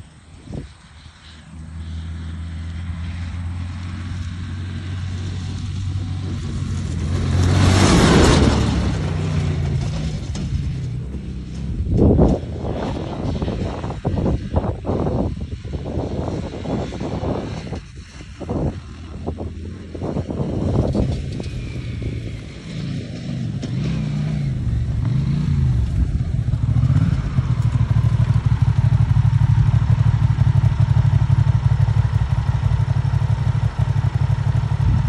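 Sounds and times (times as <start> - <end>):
motorcycle engine revving: 0.5 - 35.0.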